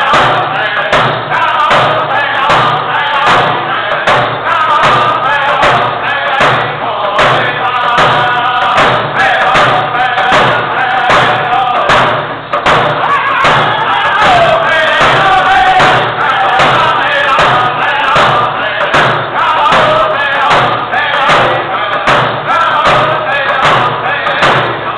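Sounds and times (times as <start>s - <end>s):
hand drums beating steadily: 0.0s - 24.9s
men singing together: 0.0s - 24.9s.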